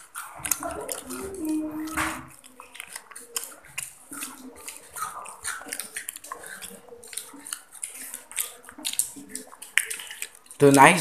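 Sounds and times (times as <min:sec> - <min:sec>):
children chewing crunchy food: 0:00.0 - 0:11.0.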